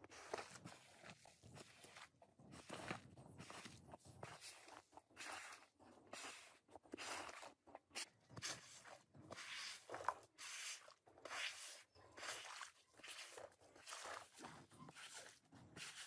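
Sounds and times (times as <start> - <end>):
squeegee swishing water on rug: 0.0 - 16.0.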